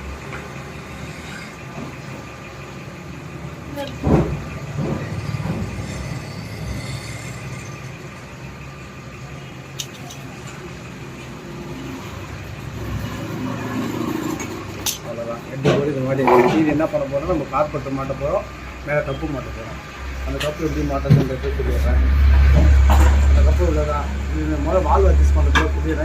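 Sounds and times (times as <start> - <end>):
low vehicle hum: 0.0 - 26.0.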